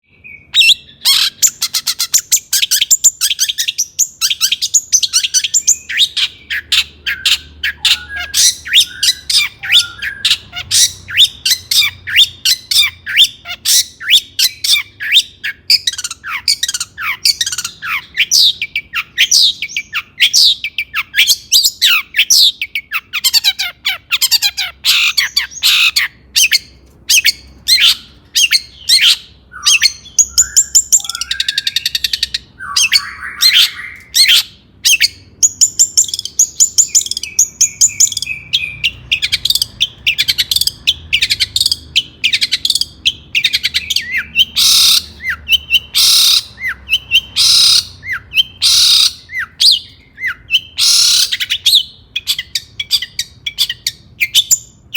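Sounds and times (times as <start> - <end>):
shrike singing harsh calls: 0.0 - 54.9.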